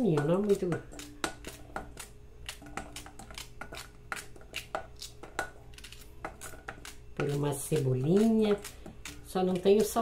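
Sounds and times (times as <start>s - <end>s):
knife slicing okra: 0.4s - 10.0s.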